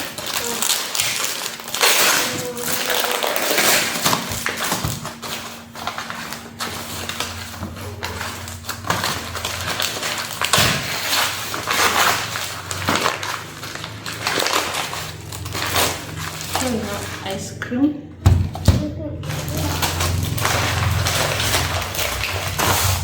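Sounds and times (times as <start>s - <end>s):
grocery bags rustling: 0.0s - 23.0s
steady low hum: 1.2s - 23.0s.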